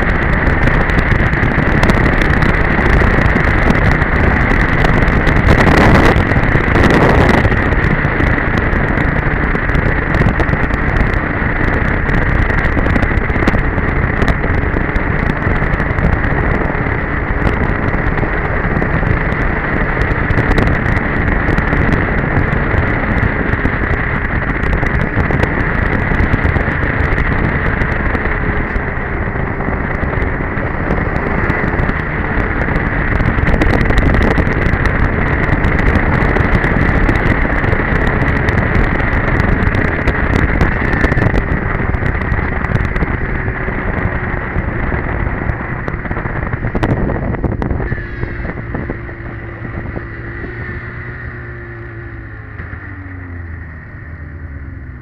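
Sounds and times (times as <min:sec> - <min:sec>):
snowmobile engine running: 0:00.0 - 0:55.0
wind on microphone: 0:00.0 - 0:55.0.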